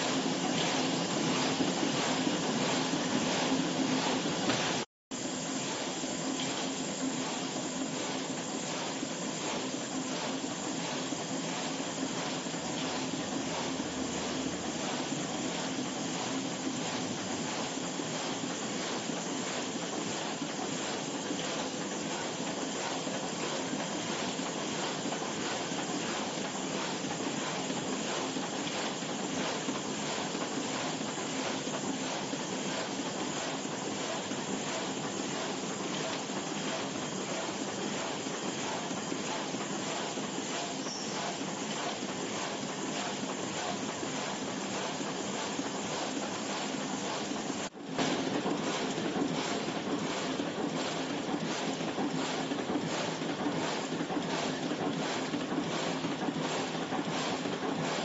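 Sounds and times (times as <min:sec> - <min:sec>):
stamping press running: 0:00.0 - 0:58.0.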